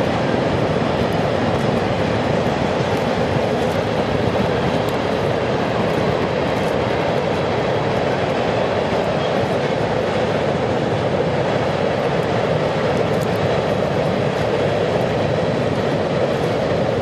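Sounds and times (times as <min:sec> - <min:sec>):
freight train wheels rumbling on bridge: 0:00.0 - 0:17.0.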